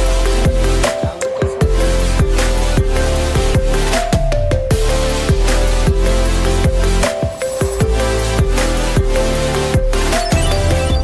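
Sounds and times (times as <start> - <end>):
electronic music with driving beat: 0.0 - 11.0.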